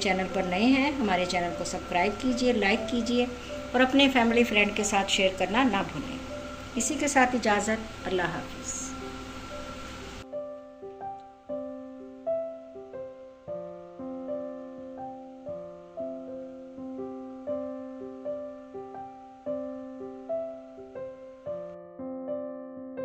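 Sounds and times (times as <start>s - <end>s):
slow gentle piano tune: 0.0s - 23.0s.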